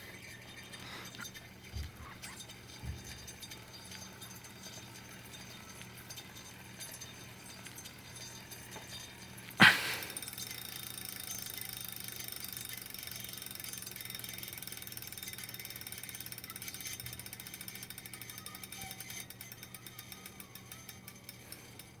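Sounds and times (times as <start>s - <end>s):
bike trainer spinning down: 0.0s - 22.0s
rapid ratcheting clicking: 0.7s - 22.0s.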